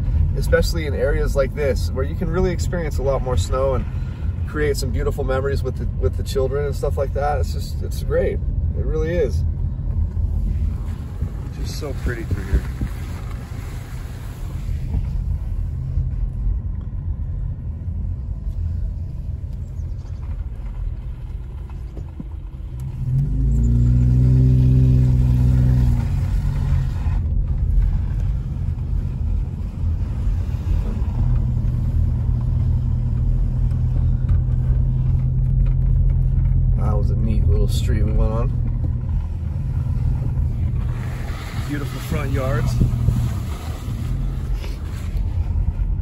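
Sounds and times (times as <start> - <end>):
car engine: 0.0 - 46.0
road rumble: 0.0 - 46.0.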